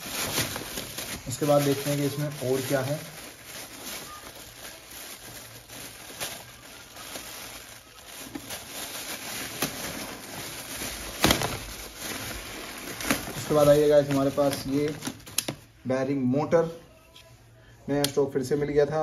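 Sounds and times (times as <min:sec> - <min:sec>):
plastic bag rustling: 0:00.0 - 0:15.7.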